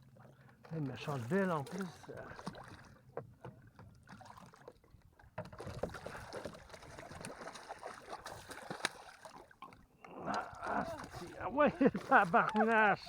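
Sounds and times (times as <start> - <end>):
water sloshing around kayak: 0.0 - 13.0.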